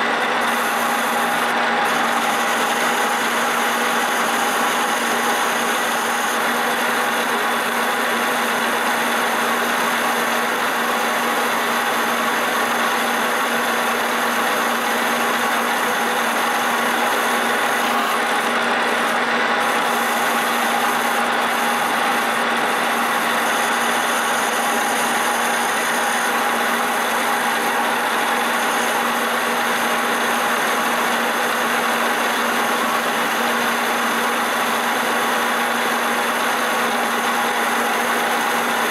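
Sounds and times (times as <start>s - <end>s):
metal lathe cutting shaft: 0.0s - 38.9s.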